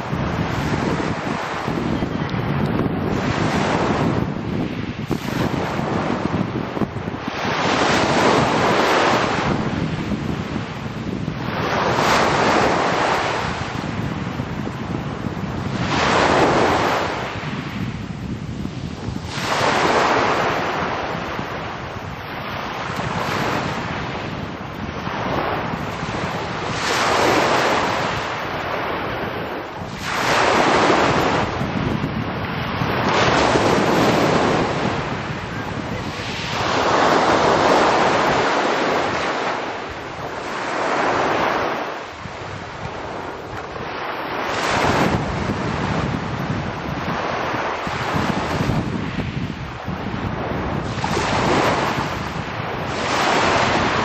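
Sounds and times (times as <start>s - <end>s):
sea waves breaking on shore: 0.0s - 54.0s
surf on pebble beach: 0.0s - 54.0s
wind rumble on microphone: 0.0s - 54.0s.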